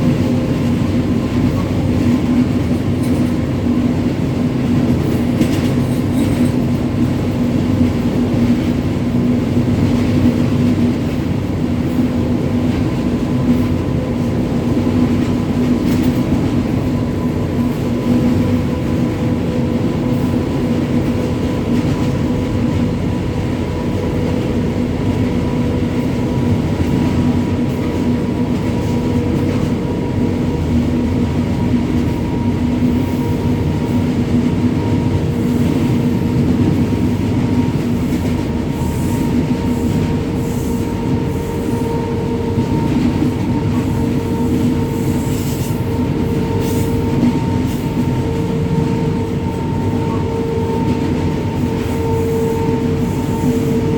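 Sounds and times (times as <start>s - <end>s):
electric locomotive hum: 0.0s - 53.9s
wheels rumbling on track: 0.0s - 53.9s.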